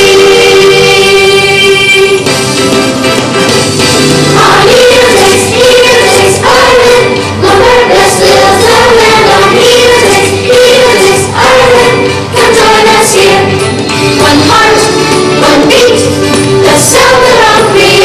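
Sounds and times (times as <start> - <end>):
children's choir singing: 0.0 - 2.2, 4.4 - 18.0
instrumental accompaniment: 0.0 - 18.0.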